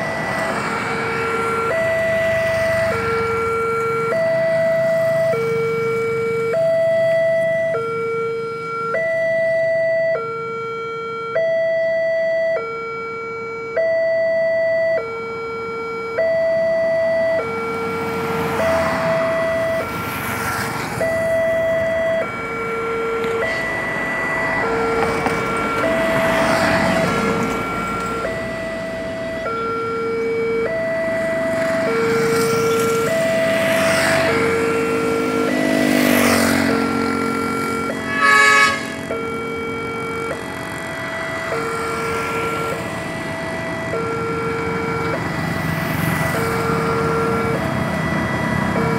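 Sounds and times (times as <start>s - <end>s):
passing road traffic: 0.0s - 48.9s
two-tone level crossing alarm: 0.0s - 48.9s.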